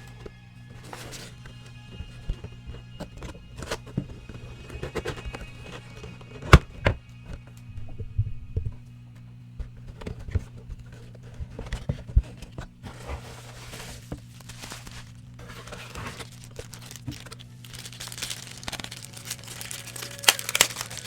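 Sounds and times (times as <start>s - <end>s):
plastic and paper crinkling: 0.0s - 7.6s, 9.2s - 21.0s
steady low hum: 0.0s - 21.0s.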